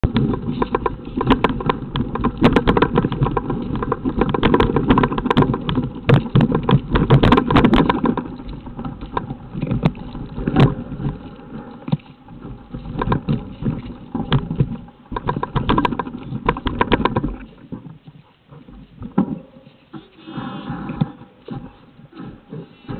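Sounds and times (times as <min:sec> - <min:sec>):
bicycle rattling: 0:00.0 - 0:20.0
footsteps crunching on rock and snow: 0:00.0 - 0:22.9.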